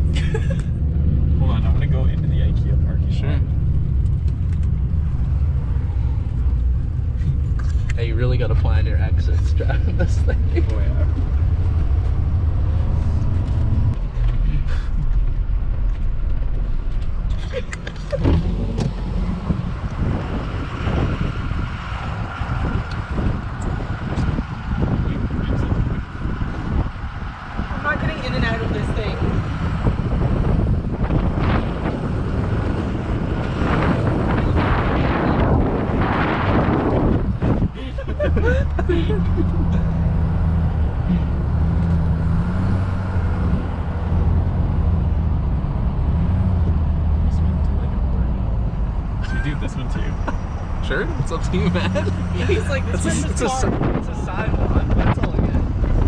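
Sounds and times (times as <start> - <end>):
road noise: 0.0 - 56.0
truck engine rumbling: 0.0 - 56.0.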